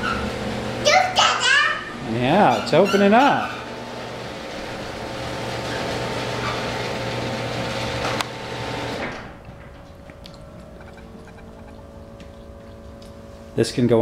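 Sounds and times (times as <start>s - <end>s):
garage door motor hum: 0.0s - 14.0s.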